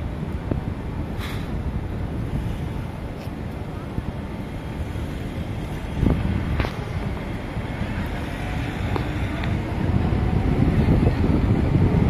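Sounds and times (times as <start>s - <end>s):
train rumbling: 0.0s - 12.0s
wind on microphone: 0.0s - 12.0s.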